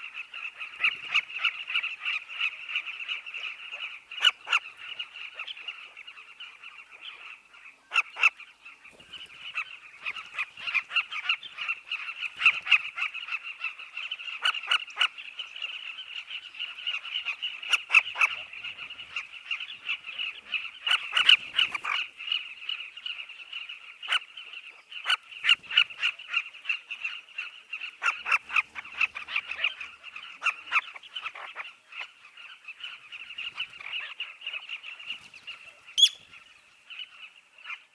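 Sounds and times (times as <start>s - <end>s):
bird colony chirping chorus: 0.0s - 37.9s
close bird calls: 0.0s - 37.9s.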